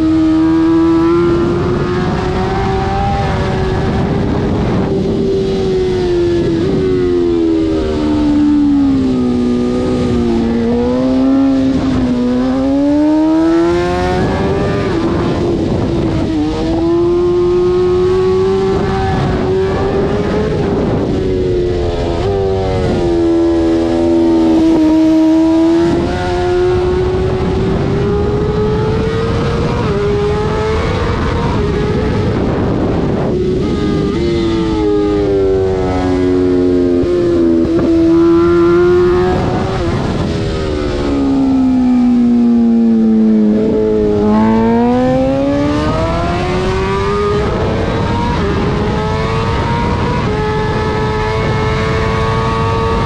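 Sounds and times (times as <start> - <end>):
motorcycle engine at full speed: 0.0 - 53.0
wind rushing: 0.0 - 53.0.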